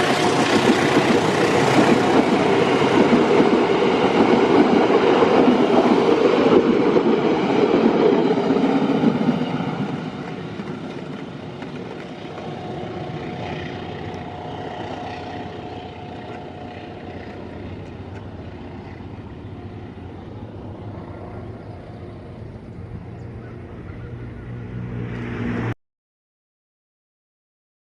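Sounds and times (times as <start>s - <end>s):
train wheels rolling on track: 0.0s - 23.2s.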